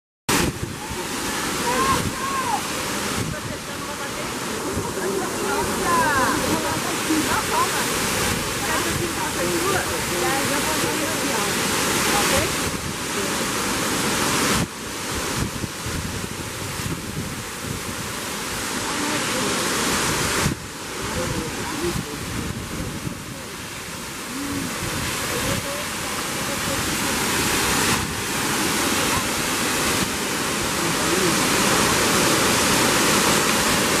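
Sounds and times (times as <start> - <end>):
wind buffeting microphone: 0.3 - 13.1, 13.9 - 18.7, 19.8 - 34.0
waterfall pouring onto rocks: 0.3 - 34.0.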